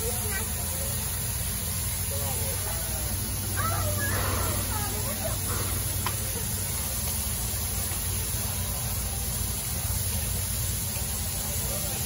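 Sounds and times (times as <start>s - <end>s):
steam hissing: 0.0s - 12.0s.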